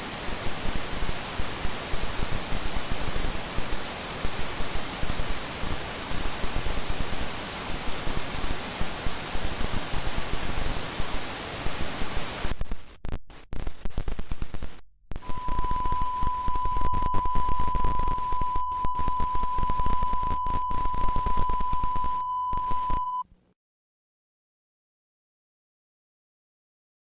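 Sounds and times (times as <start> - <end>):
loud crackling static hiss: 0.0 - 23.0.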